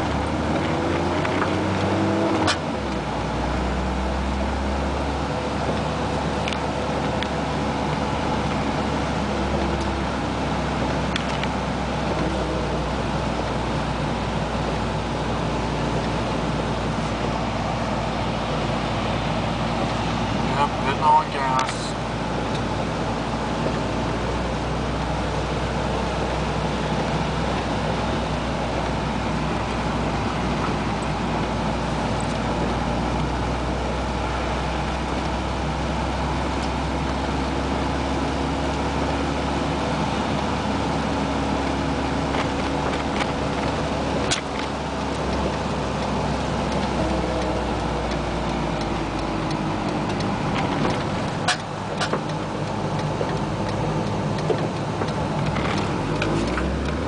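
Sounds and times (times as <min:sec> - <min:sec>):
engine drone inside car: 0:00.0 - 0:57.0.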